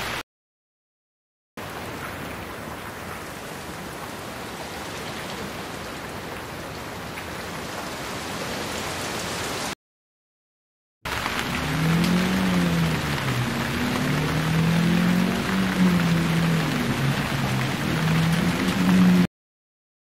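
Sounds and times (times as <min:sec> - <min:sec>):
rain falling on a lawn: 0:01.6 - 0:09.8, 0:11.1 - 0:19.3.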